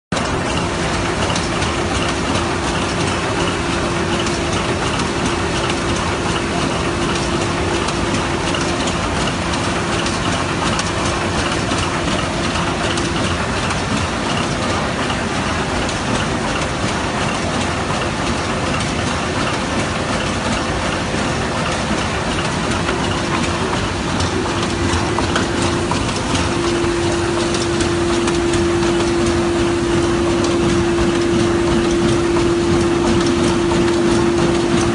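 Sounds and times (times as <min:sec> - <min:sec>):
sewing machine clatter: 0:00.1 - 0:34.9
machine hum: 0:00.2 - 0:34.9.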